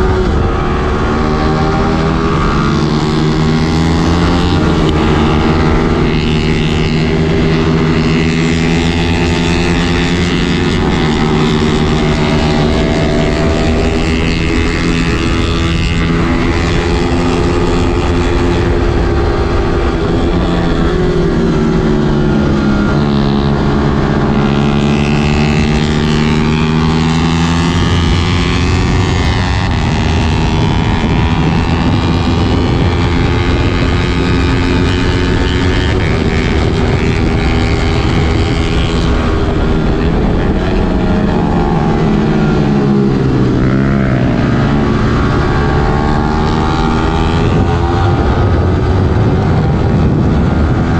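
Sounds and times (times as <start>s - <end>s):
motorcycle engine running hard: 0.0s - 50.9s.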